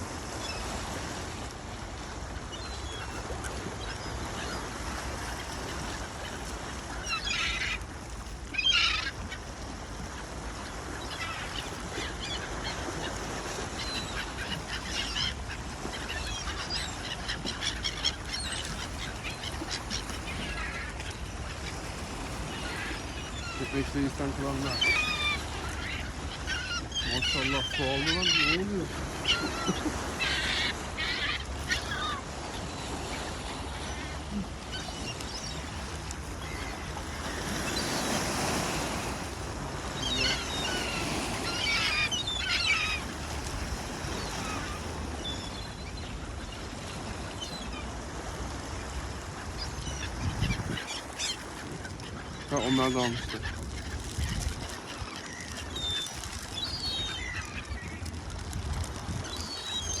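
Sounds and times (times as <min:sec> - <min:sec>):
sea waves washing: 0:00.0 - 1:00.0
seagulls calling: 0:02.0 - 0:07.9, 0:08.5 - 1:00.0.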